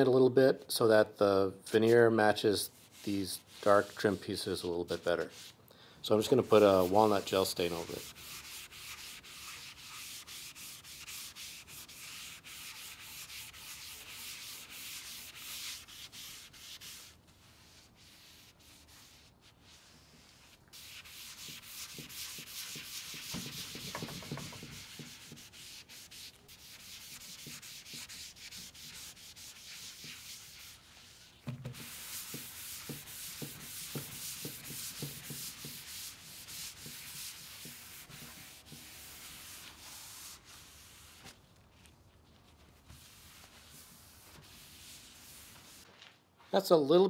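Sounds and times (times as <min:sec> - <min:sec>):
cloth scrubbing on wood: 0:01.7 - 0:41.4, 0:42.4 - 0:45.9.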